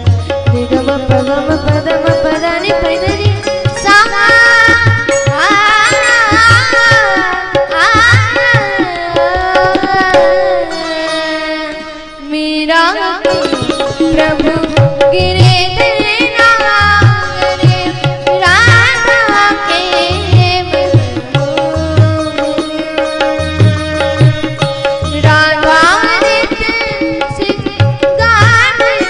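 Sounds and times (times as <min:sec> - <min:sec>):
tabla drumming: 0:00.0 - 0:29.0
woman singing devotional melody: 0:00.0 - 0:29.0.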